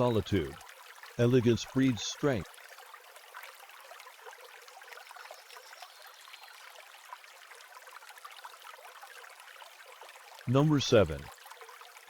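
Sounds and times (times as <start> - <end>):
faint trickling water: 0.0 - 12.0.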